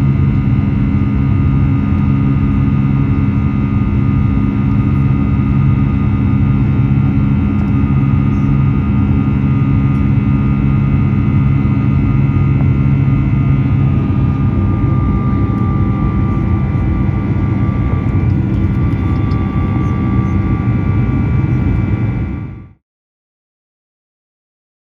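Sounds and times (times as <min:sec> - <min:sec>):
high engine whine: 0:00.0 - 0:22.8
jet engine roar in cabin: 0:00.0 - 0:22.8.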